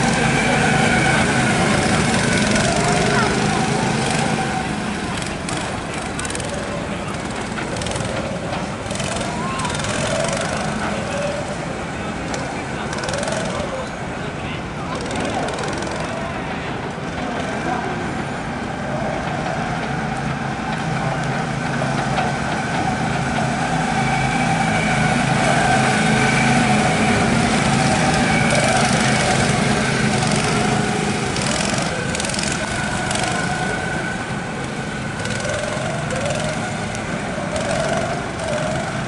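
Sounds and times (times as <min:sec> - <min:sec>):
go-kart engines racing: 0:00.0 - 0:39.0.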